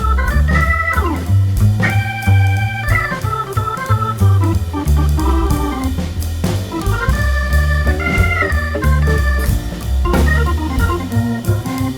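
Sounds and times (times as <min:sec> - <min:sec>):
bass and beat: 0:00.0 - 0:11.9
organ-like keyboard music: 0:00.0 - 0:11.9.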